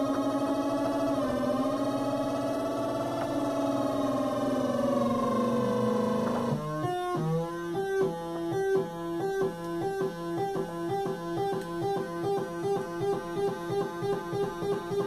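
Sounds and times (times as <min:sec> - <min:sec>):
synth tone stepped pattern: 0:00.0 - 0:15.0.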